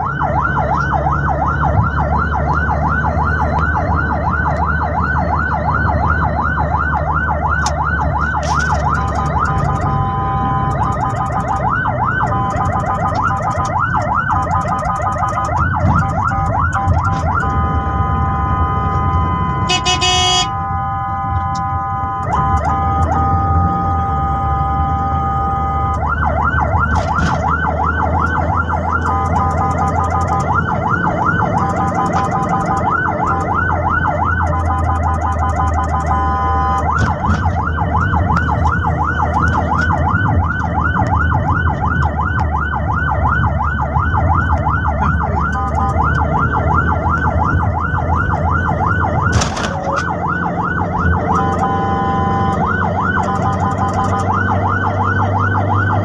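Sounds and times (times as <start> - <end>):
ambulance siren: 0.0 - 56.0
engine and road rumble: 0.0 - 56.0.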